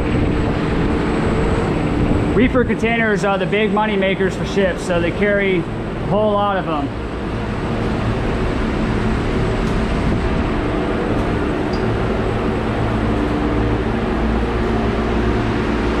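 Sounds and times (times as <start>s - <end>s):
refrigeration units humming: 0.0s - 16.0s
steady tones: 0.0s - 16.0s.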